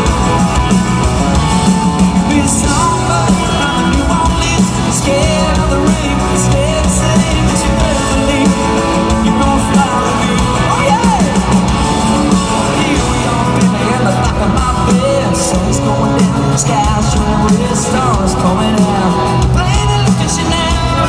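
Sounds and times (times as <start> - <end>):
country-rock song: 0.0 - 21.0
guitars: 0.0 - 21.0
man singing: 0.0 - 21.0.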